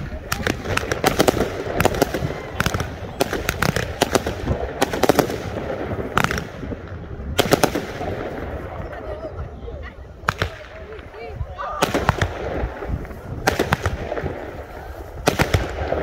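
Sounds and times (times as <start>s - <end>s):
fireworks crackling pops: 0.0s - 16.0s.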